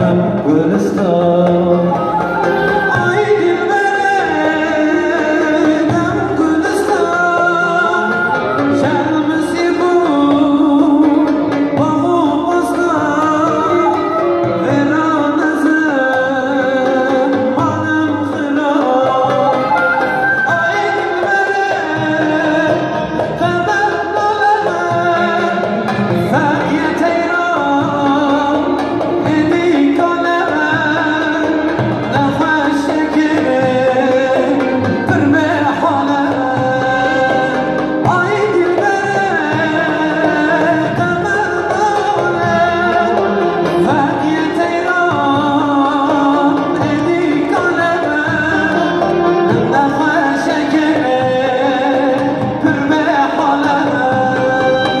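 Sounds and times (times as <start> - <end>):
long-necked lutes playing: 0.0 - 55.0
man singing into a microphone: 0.0 - 55.0.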